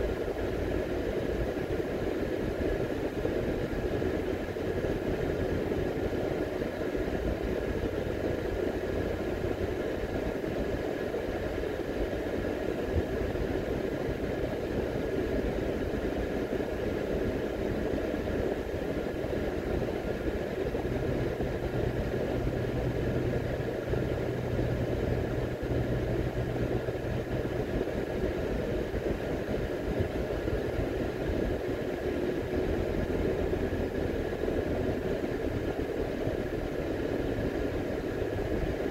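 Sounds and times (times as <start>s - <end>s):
car tyre and engine noise: 0.0s - 38.9s.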